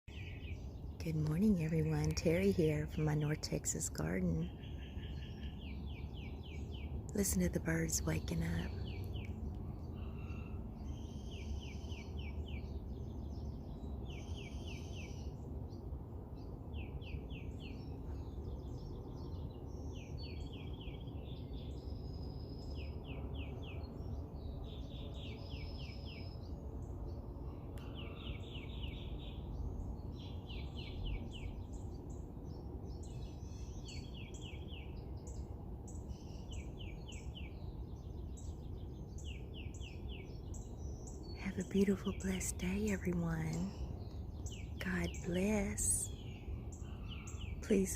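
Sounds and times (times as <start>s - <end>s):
low background rumble: 0.1s - 47.9s
songbirds singing: 0.1s - 47.9s.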